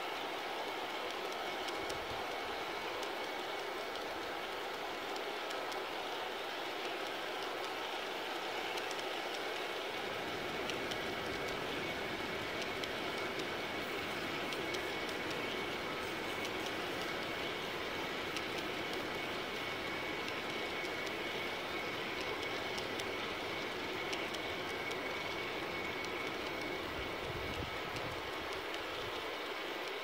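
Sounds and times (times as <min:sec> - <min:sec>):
model train wheels rumbling: 0:00.0 - 0:30.0
thin steady high tone: 0:00.0 - 0:30.0
faint clicks: 0:00.1 - 0:30.0.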